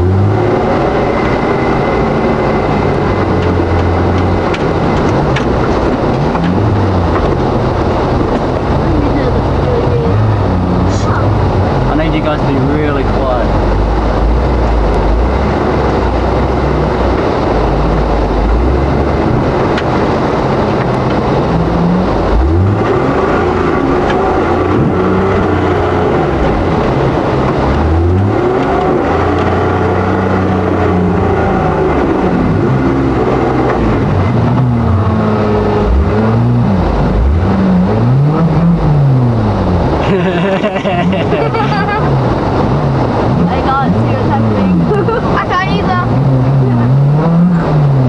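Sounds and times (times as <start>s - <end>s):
off-road engine revving: 0.0s - 48.0s.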